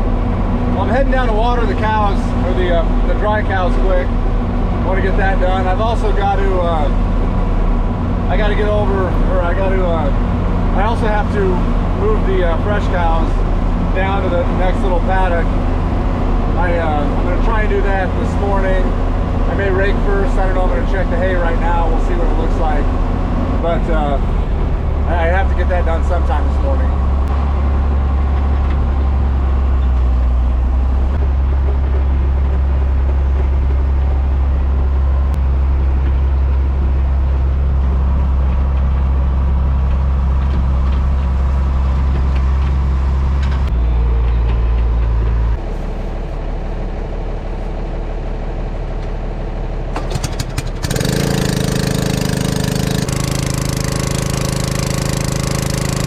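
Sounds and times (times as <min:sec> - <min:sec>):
engine running steadily: 0:00.0 - 0:56.0
rattly engine: 0:00.0 - 0:56.0.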